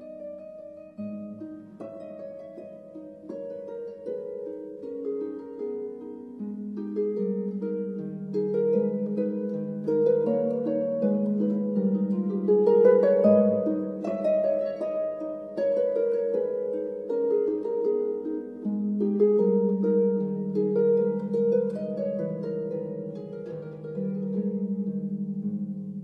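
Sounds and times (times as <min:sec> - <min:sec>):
harp-like arpeggios: 0:00.0 - 0:26.0.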